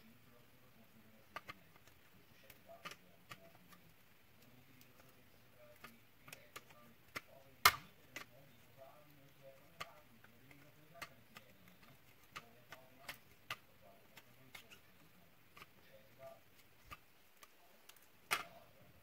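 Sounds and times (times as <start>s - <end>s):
small clicks and taps on plastic: 1.2s - 18.7s.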